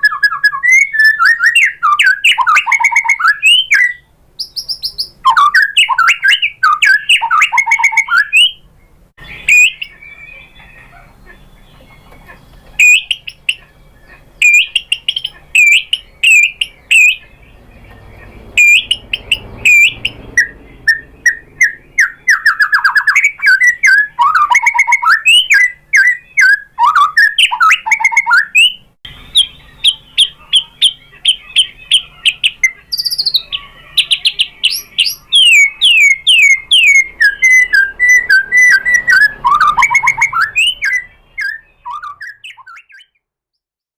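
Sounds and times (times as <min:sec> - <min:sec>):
bird singing whistled song: 0:00.0 - 0:43.2.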